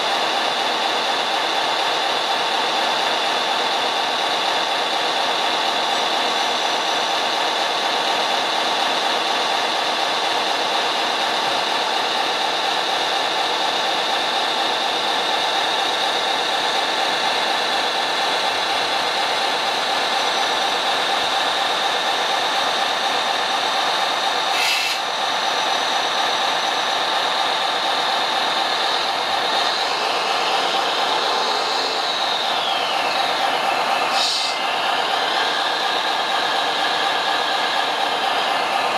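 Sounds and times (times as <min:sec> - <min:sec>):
model machinery engine running: 0:00.0 - 0:38.9.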